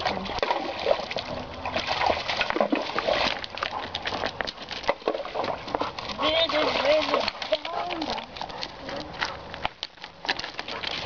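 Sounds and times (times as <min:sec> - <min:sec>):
dog splashing in water: 0:00.0 - 0:11.0.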